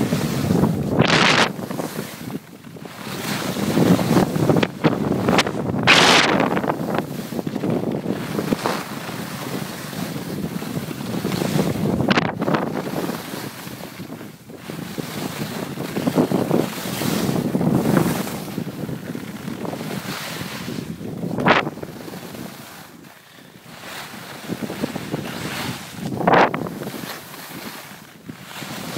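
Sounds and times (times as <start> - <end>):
skis sliding on snow: 0.0 - 28.9
wind buffeting microphone: 0.0 - 28.9.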